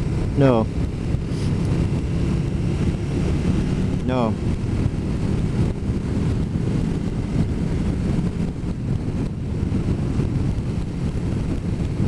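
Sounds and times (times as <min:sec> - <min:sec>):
motorcycle engine drone: 0:00.0 - 0:12.0
wind noise on microphone: 0:00.0 - 0:12.0.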